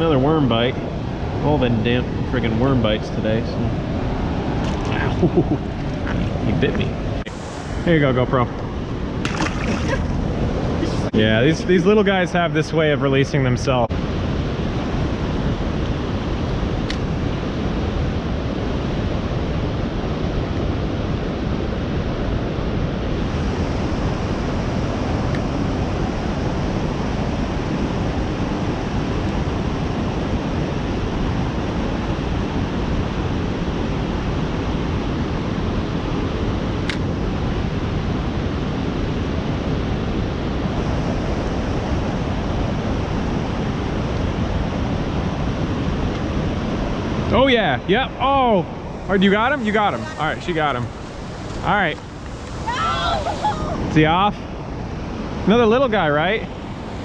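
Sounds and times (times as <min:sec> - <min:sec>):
river flowing: 0:00.0 - 0:12.3, 0:22.5 - 0:57.0.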